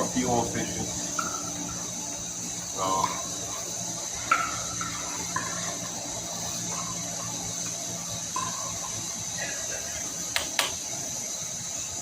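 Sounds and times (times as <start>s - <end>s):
camp stove burner hissing: 0.0s - 12.0s.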